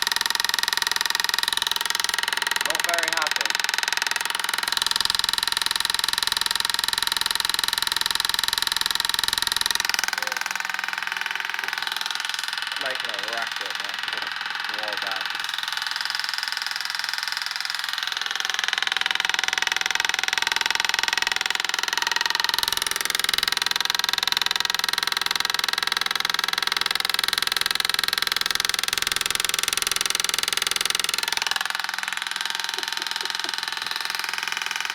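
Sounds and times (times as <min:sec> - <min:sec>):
washing machine running: 0:00.0 - 0:34.9.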